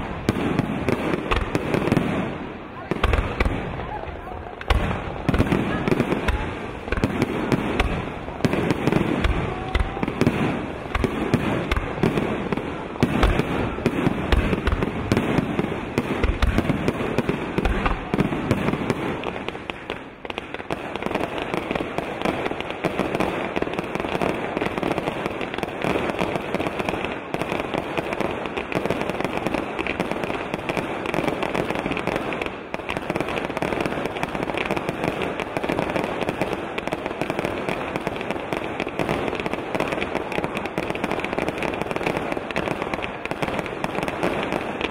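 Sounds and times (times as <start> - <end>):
firework booms: 0.0 - 44.9
firework crackling: 0.0 - 44.9.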